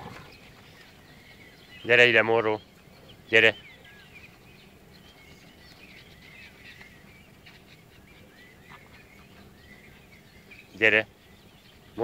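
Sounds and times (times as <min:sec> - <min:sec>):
faint songbird chirping: 0:00.0 - 0:12.0.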